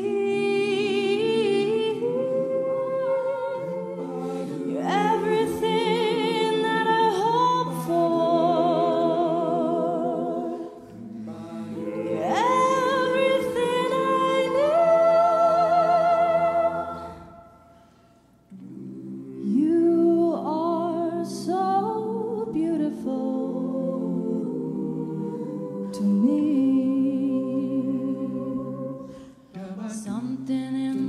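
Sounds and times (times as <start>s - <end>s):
choir singing chords: 0.0s - 31.0s.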